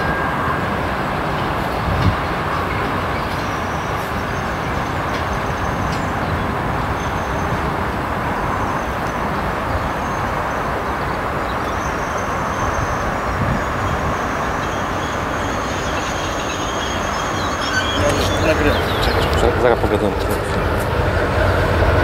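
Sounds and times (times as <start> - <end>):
locomotive engine drone: 0.0 - 22.0.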